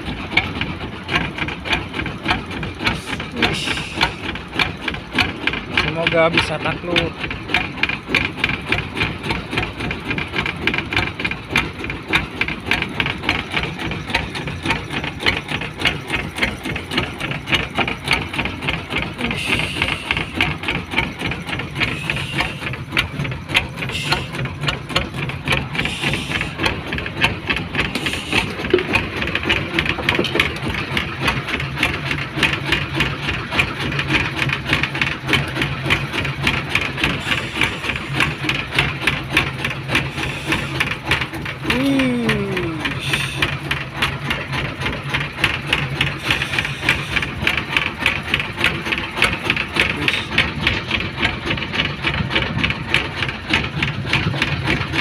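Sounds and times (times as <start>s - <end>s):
boat engine knocking: 0.0s - 55.0s.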